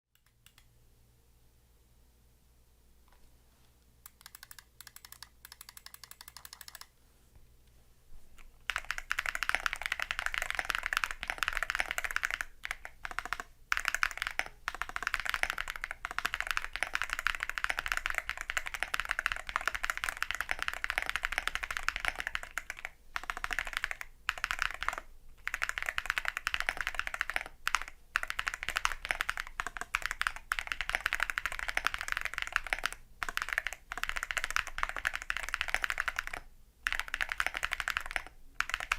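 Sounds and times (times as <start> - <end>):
mechanical keyboard typing: 4.1 - 6.9, 8.6 - 38.9.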